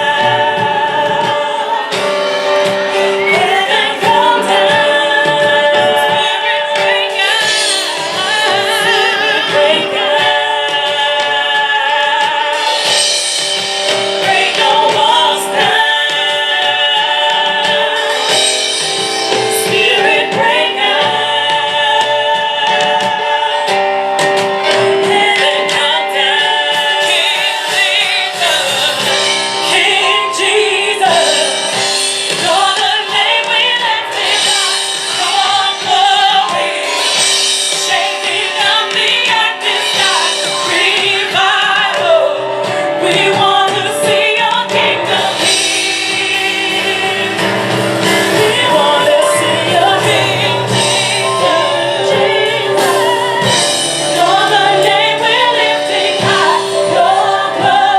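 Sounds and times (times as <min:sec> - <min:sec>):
drums: 0:00.0 - 0:57.9
piano: 0:00.0 - 0:57.9
women singing together: 0:00.0 - 0:57.9.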